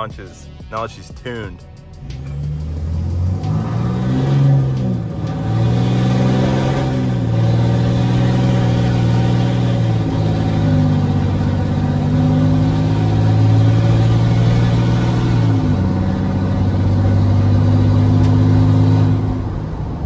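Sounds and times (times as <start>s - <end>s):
diesel engine accelerating: 1.6s - 20.0s.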